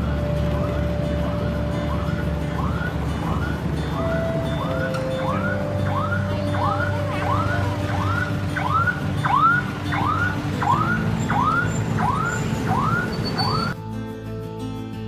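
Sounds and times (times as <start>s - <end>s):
emergency siren whooping: 0.0s - 13.8s
street traffic rumble: 0.0s - 15.0s.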